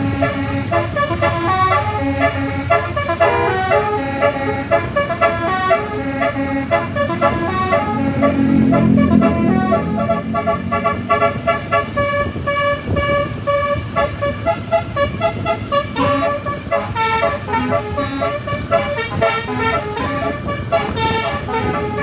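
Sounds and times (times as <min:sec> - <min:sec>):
bus engine rumble: 0:00.0 - 0:22.0
musical air horn melody: 0:00.0 - 0:22.0.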